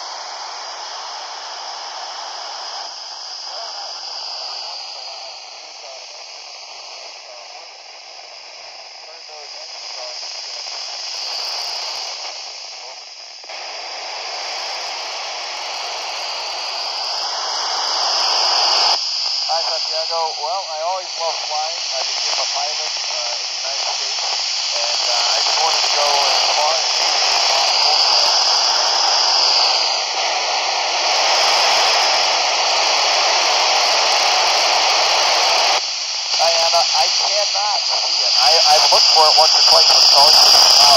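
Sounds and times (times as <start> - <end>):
radio receiver hiss and static: 0.0 - 40.9.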